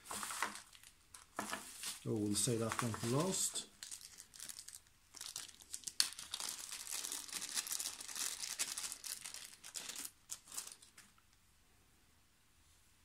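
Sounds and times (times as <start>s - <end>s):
bubble wrap crinkling: 0.0s - 11.2s.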